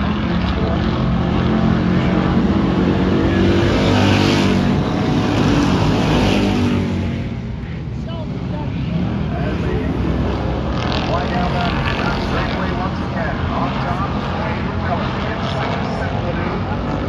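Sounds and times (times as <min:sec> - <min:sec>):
stock cars racing past: 0:00.0 - 0:17.0.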